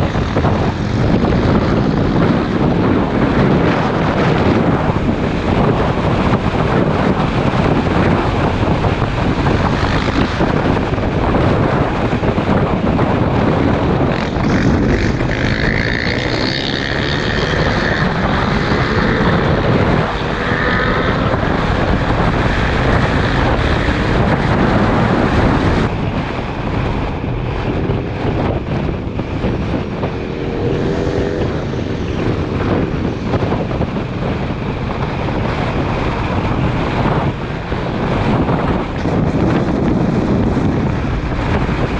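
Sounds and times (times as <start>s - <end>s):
motorcycle engine: 0.0s - 41.9s
wind rush on microphone: 0.0s - 41.9s.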